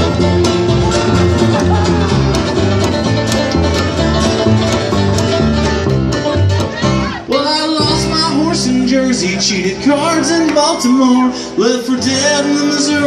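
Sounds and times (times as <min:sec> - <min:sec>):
banjo picking: 0:00.0 - 0:13.0
plucked upright bass: 0:00.0 - 0:13.0
strummed acoustic guitar: 0:00.0 - 0:13.0.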